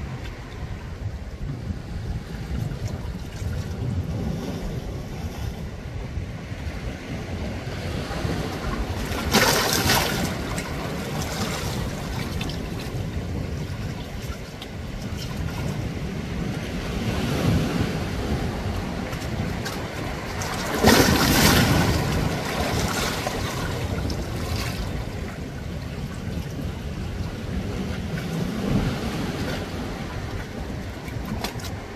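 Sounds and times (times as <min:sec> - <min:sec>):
waves lapping on rocky shore: 0:00.0 - 0:31.9.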